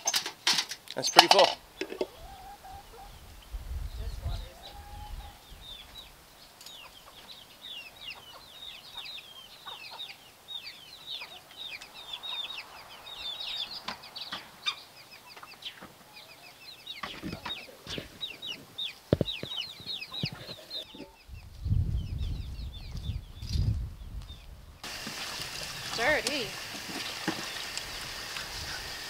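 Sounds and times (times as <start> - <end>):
chickens chirping: 1.0 - 29.0.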